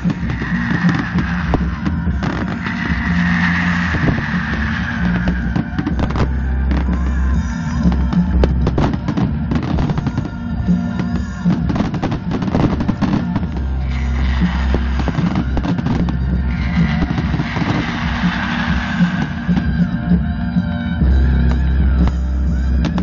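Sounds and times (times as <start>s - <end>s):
fireworks bursting and crackling: 0.0s - 23.0s
loud music with low notes: 0.0s - 23.0s.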